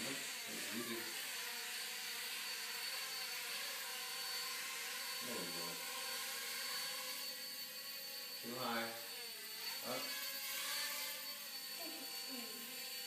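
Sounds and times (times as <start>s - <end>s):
toy helicopter rotor whine: 0.0s - 13.0s.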